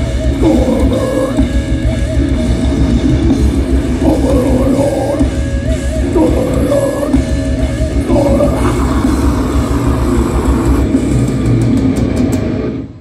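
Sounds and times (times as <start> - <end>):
drum and cymbal hits: 0.0 - 13.0
live death metal band: 0.0 - 13.0.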